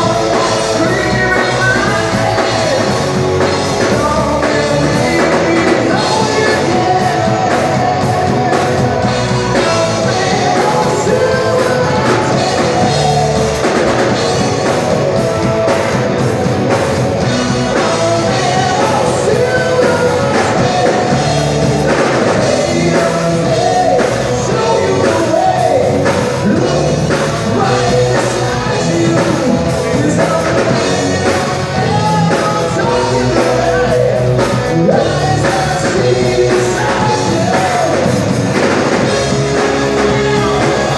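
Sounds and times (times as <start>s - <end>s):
rock band with singer: 0.0s - 40.9s.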